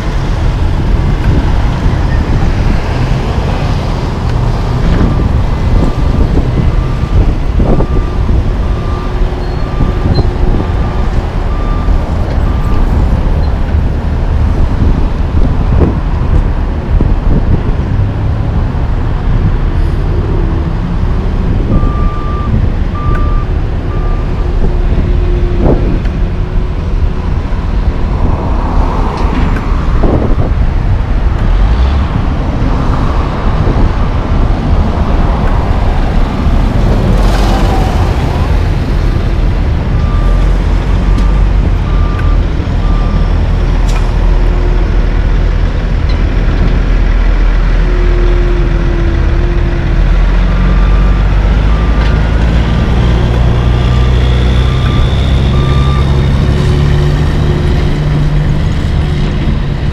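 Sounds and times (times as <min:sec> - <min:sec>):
diesel trucks rumbling: 0:00.0 - 0:59.9.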